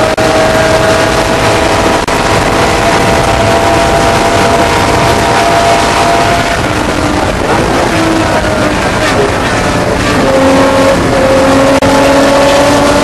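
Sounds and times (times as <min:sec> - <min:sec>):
race car engine at speed: 0:00.0 - 0:13.0.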